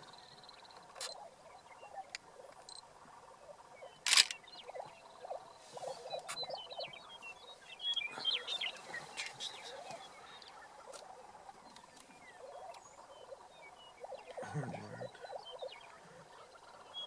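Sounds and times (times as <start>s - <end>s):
prairie chickens calling: 0.0s - 17.0s.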